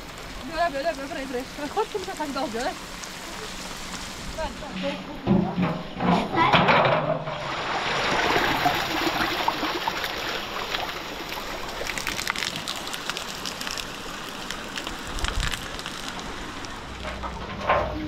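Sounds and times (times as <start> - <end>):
rain falling: 0.0 - 18.0
water rushing down concrete channel: 0.0 - 18.0.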